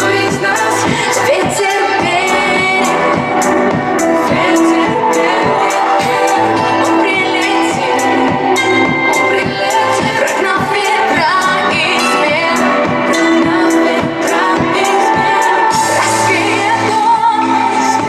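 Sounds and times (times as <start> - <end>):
pop song with singing: 0.0 - 18.0.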